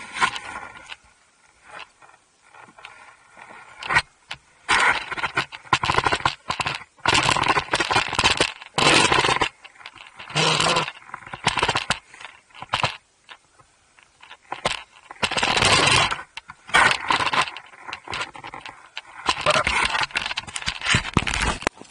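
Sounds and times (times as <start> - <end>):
clothing rubbing against microphone: 0.0 - 21.9.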